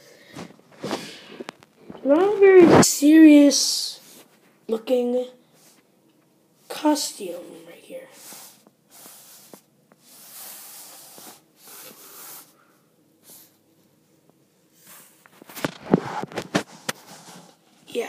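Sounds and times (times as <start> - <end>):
soft rustling and brushing: 0.2 - 5.9, 6.6 - 12.6, 13.3 - 18.0.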